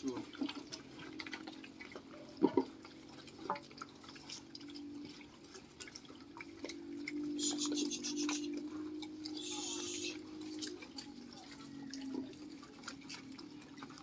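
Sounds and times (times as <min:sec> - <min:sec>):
piglets chewing and snuffling: 0:00.0 - 0:14.0.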